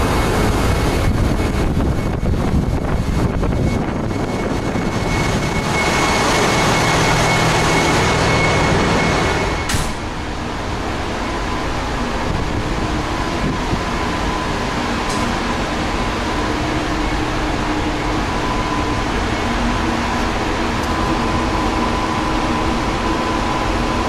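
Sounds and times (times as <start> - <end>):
machinery and ventilation hum: 0.0 - 24.0.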